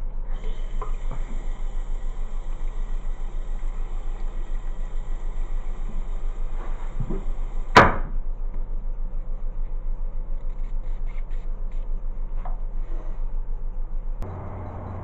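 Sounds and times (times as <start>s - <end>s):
pulsing low hum: 0.0s - 10.8s, 11.5s - 15.0s.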